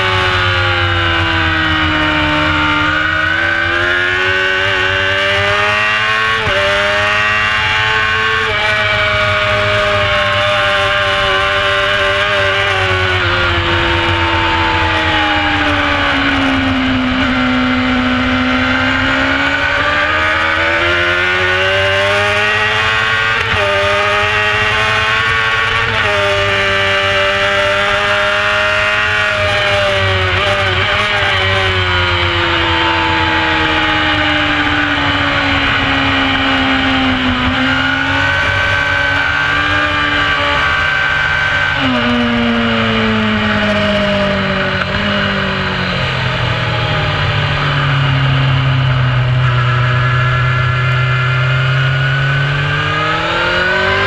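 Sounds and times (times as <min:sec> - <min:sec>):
motorcycle engine at race pace: 0:00.0 - 0:54.0.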